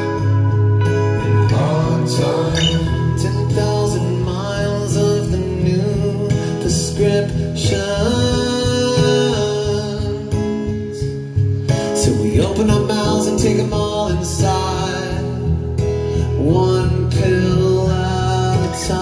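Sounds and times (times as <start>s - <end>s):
acoustic guitars strummed: 0.0s - 19.0s
man singing into microphone: 1.2s - 15.6s, 16.2s - 19.0s.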